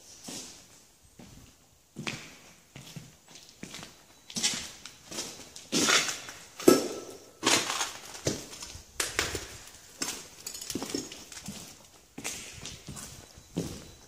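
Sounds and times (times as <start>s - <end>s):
footsteps crunching on debris: 2.0s - 14.0s.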